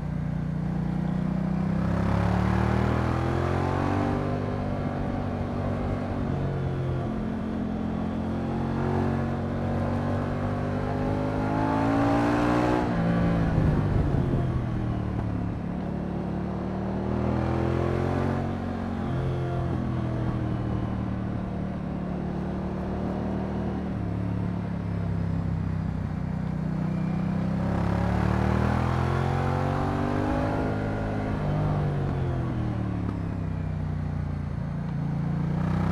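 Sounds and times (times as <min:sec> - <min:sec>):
motorcycle engine revving: 0:00.6 - 0:21.5, 0:25.0 - 0:33.7.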